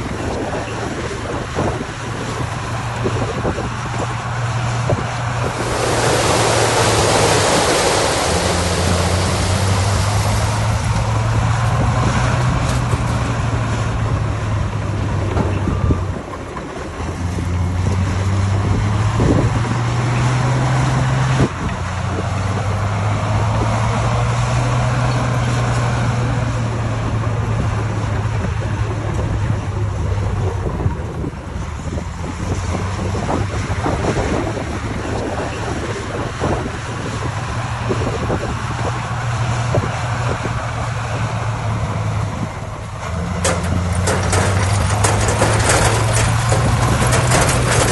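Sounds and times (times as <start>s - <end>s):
heavy diesel engine under load: 0.0s - 47.9s
wind buffeting microphone: 0.0s - 47.9s.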